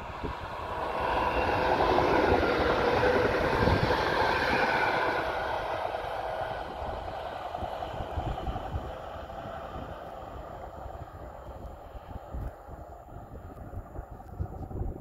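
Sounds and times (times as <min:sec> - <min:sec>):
electric train passing: 0:00.0 - 0:14.5
wind rumbling on microphone: 0:00.0 - 0:15.0.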